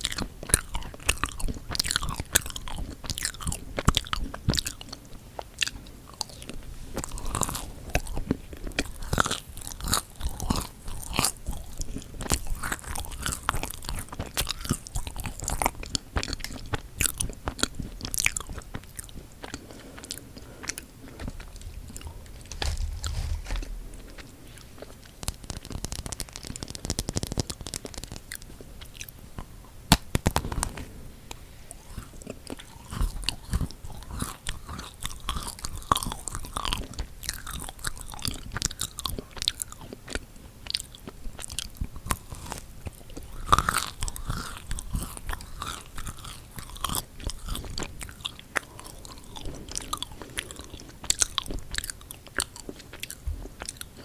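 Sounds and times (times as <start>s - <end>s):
chewing with mouth sounds: 0.0s - 54.0s
crackling bites of cookies: 0.0s - 54.0s.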